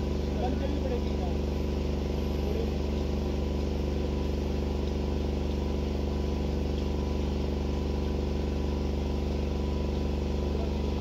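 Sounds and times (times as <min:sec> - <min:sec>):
low buzzing machine hum: 0:00.0 - 0:11.0.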